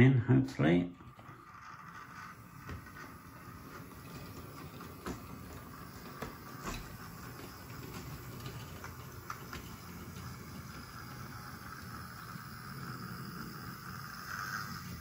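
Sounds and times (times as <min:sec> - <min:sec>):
model train motor whirr: 0:01.0 - 0:15.0
wheels clicking over rail joints: 0:01.0 - 0:15.0.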